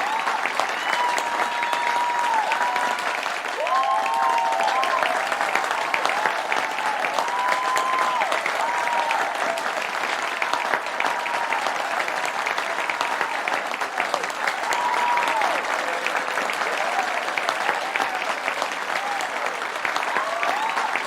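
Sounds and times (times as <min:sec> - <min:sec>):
cheers and whoops: 0:00.0 - 0:21.0
crowd applauding: 0:00.0 - 0:21.0.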